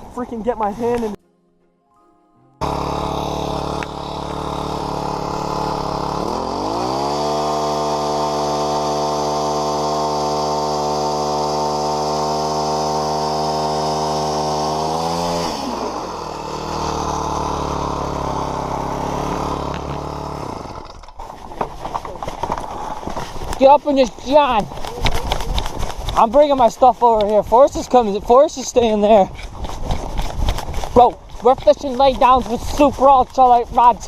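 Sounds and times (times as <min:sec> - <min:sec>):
small engine idling and revving: 0:02.6 - 0:34.0.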